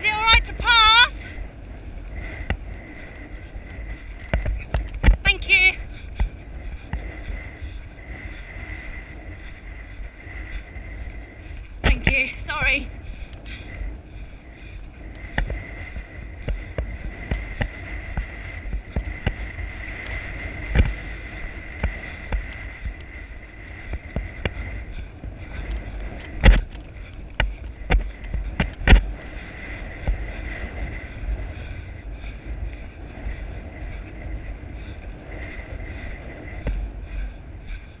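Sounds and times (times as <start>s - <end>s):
wind on microphone: 0.0s - 38.0s.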